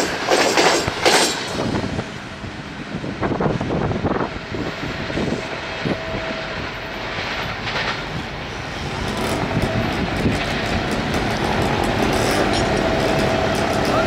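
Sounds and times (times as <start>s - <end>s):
train engine and wheels rumbling: 0.0s - 14.0s.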